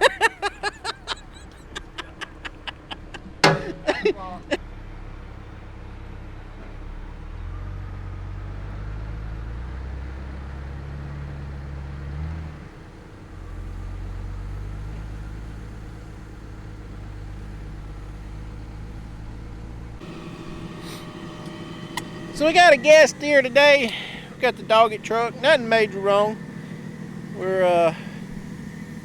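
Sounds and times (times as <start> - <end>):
heavy diesel engine under load: 0.0 - 29.0.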